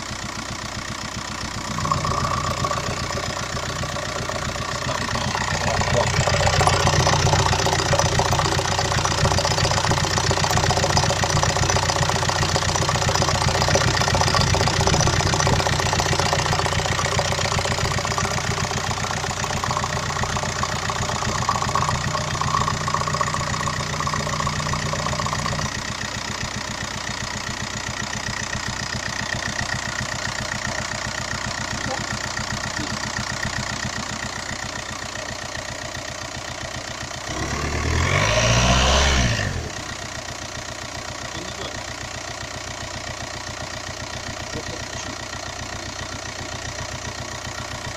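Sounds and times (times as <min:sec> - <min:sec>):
diesel engine idling with knocking: 0:00.0 - 0:47.9.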